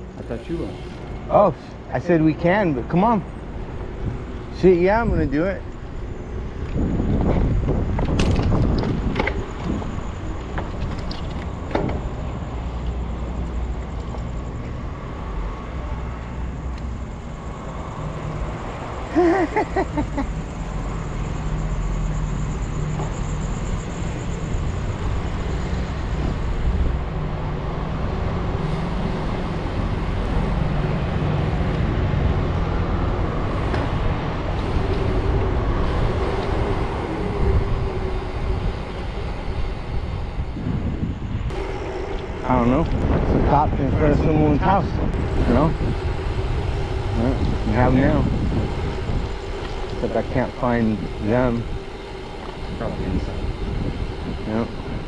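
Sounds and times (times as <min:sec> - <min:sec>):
bicycle tyre rumble: 0:00.0 - 0:21.5, 0:22.2 - 0:55.0
wind rushing over microphone: 0:01.4 - 0:19.1, 0:23.5 - 0:55.0.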